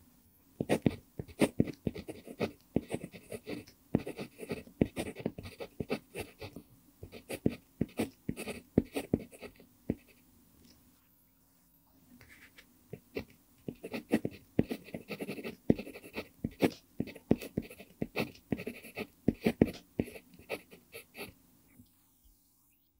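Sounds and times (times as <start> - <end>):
pencil scratching on paper: 0.6 - 10.2, 12.3 - 21.3.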